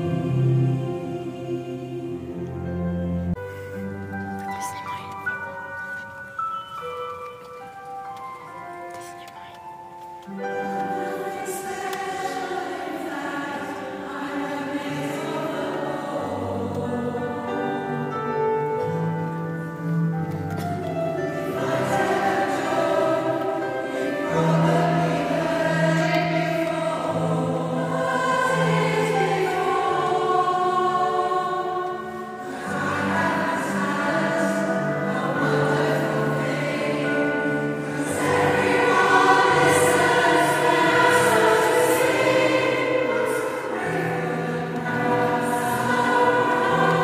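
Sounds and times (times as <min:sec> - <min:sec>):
women's choir singing: 0:00.0 - 0:03.4, 0:10.3 - 0:19.9, 0:20.9 - 0:47.0.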